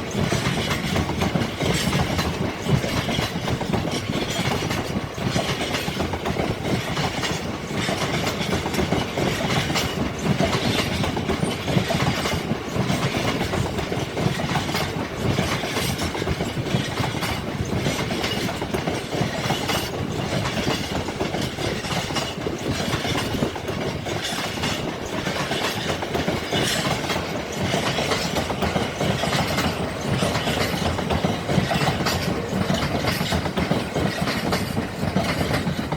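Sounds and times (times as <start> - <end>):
train wheels clattering over rail joints: 0.0 - 35.9.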